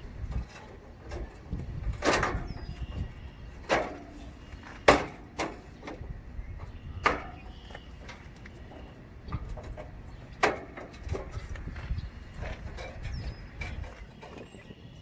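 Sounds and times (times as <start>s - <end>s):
knocks and clunks on metal unit: 0.3s - 14.5s.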